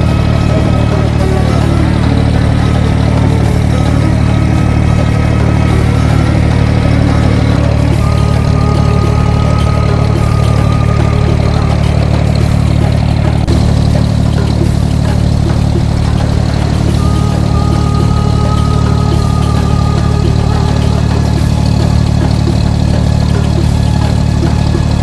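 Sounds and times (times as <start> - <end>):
boat diesel engine drone: 0.0 - 25.0.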